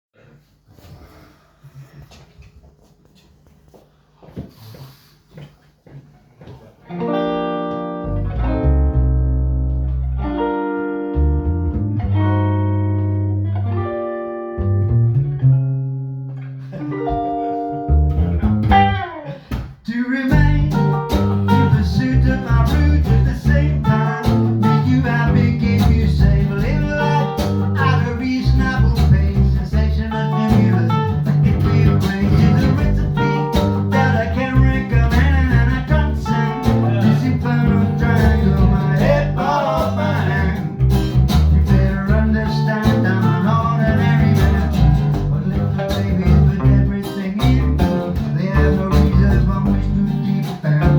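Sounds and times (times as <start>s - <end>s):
band music: 6.9s - 19.4s, 20.3s - 50.9s.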